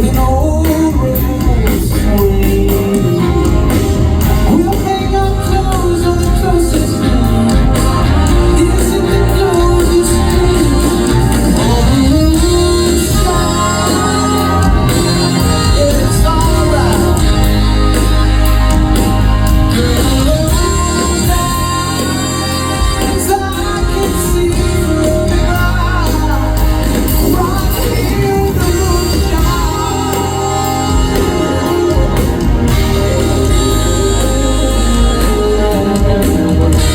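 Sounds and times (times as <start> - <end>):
lead vocal singing: 0.0 - 36.9
live band playing: 0.0 - 36.9.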